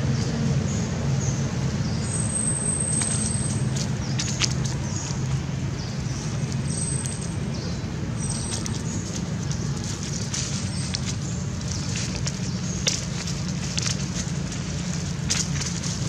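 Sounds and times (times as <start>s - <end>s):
steady low rumble: 0.0s - 16.0s
dry leaves crackling and rustling: 2.4s - 16.0s.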